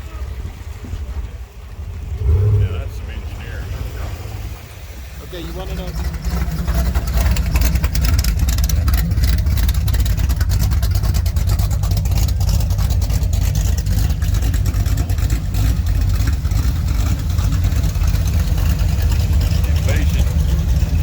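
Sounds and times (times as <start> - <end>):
vehicle engine running: 1.8 - 21.0.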